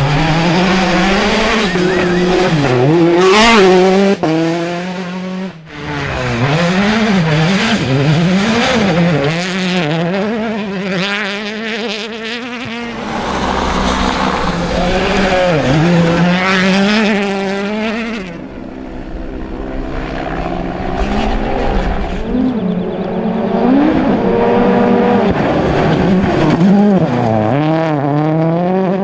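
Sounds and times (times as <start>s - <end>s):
rally car engines revving: 0.0s - 29.0s.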